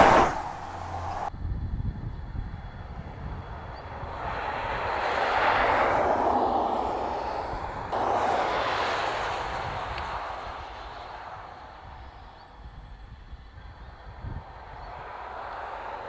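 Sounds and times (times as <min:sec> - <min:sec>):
car driving past: 0:00.0 - 0:01.3, 0:03.1 - 0:12.6, 0:13.6 - 0:16.0.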